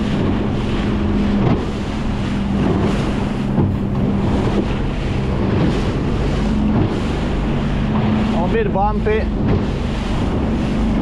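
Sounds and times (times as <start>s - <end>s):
boat engine running: 0.0s - 11.0s
water rushing past hull: 0.0s - 11.0s
wind buffeting microphone: 0.0s - 11.0s.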